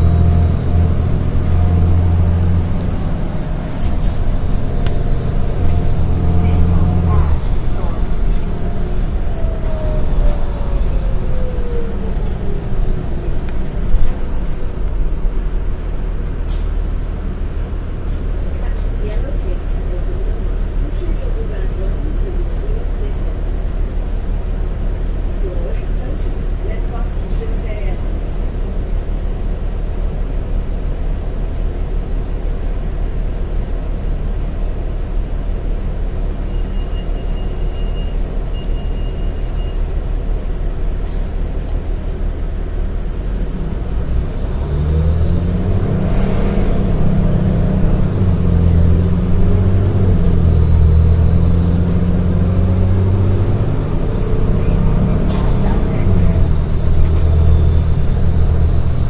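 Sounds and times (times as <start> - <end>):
high engine whine: 0.0 - 26.8, 27.7 - 59.0
bus diesel engine rumble: 0.0 - 59.0.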